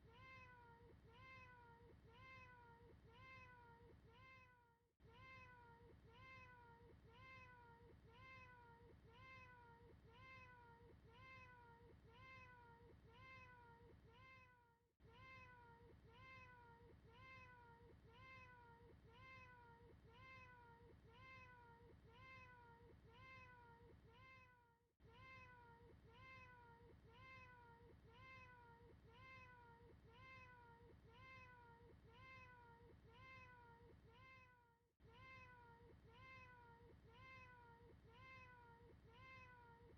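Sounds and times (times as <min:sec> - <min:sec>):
faint cat meow: 0:00.0 - 0:39.8.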